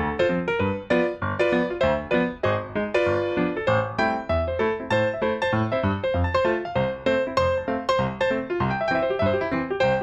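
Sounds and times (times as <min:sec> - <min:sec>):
piano notes: 0:00.0 - 0:10.0.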